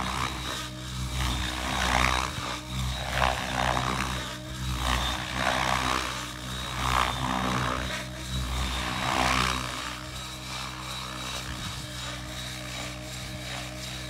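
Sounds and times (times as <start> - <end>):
rc helicopter rotor hum: 0.0 - 14.0.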